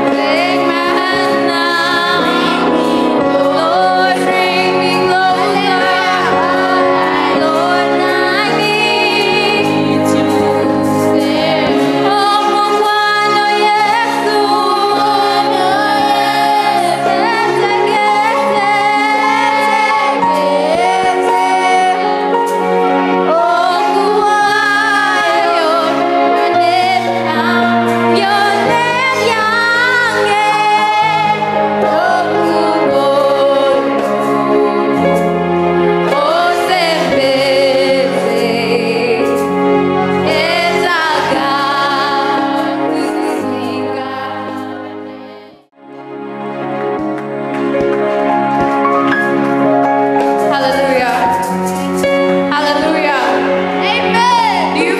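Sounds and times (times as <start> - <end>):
instrumental accompaniment: 0.0 - 54.9.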